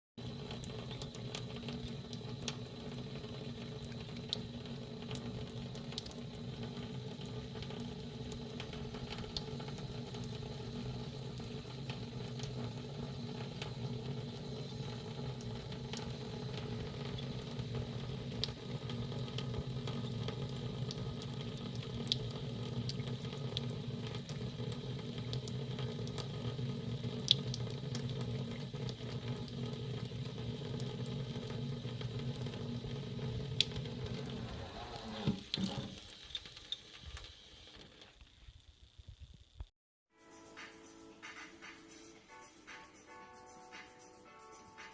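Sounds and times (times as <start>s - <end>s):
water running from a tap: 0.2s - 38.3s.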